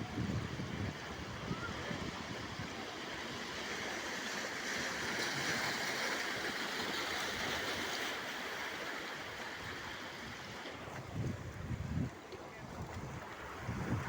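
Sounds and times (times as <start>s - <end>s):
seawater rushing along boat: 0.0s - 14.0s.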